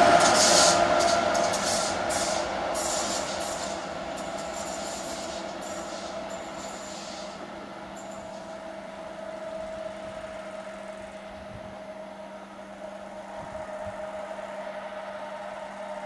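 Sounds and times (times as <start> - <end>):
train humming and whining: 0.0 - 16.0.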